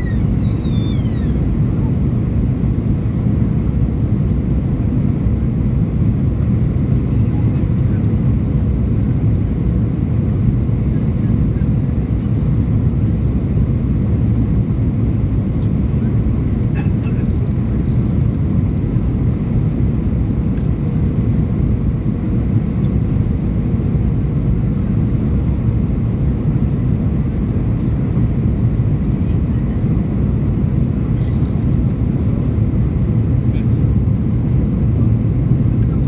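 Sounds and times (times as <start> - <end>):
airliner cabin engine noise: 0.0 - 36.0.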